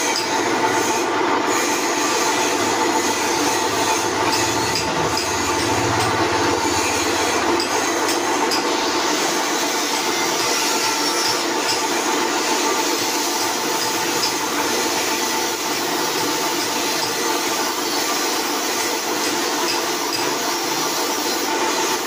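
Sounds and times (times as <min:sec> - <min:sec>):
drill press whirring: 0:00.0 - 0:21.8.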